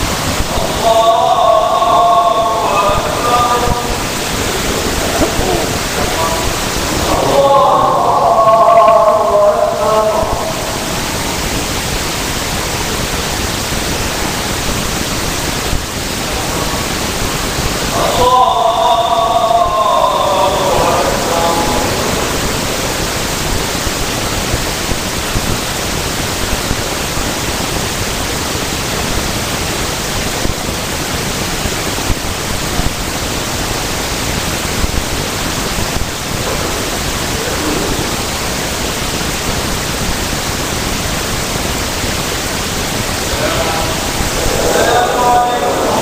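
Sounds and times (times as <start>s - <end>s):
steady background hiss: 0.0s - 46.0s.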